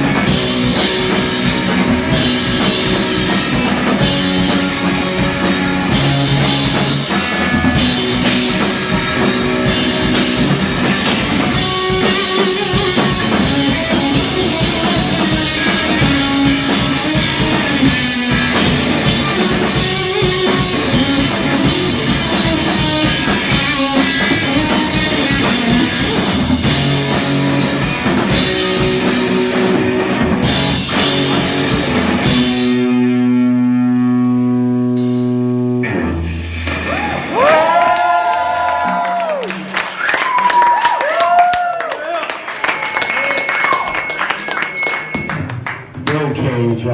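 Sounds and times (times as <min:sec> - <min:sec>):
rock band playing: 0:00.0 - 0:46.9.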